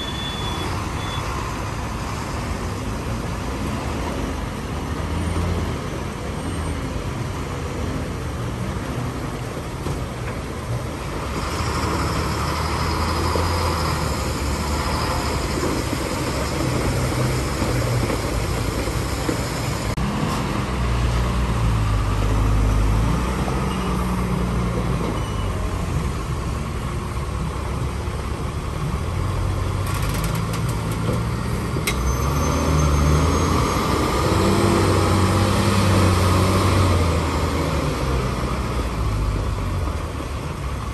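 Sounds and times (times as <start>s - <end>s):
truck diesel engines under load: 0.0s - 40.9s.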